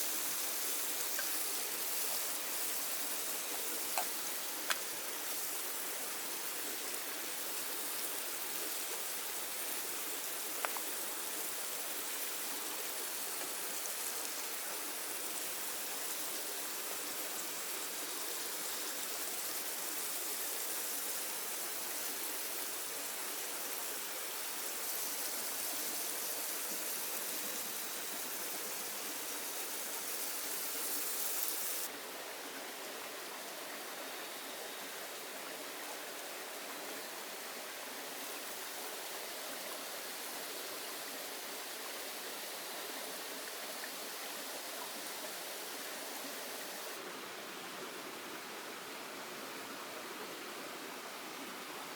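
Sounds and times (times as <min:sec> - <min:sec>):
heavy rain hissing: 0:00.0 - 0:32.0, 0:37.0 - 0:47.1.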